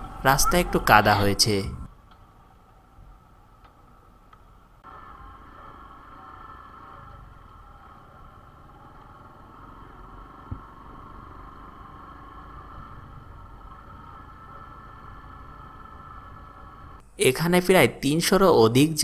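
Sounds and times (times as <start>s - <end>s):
small vehicle engine running: 0.0s - 0.8s, 2.2s - 17.0s.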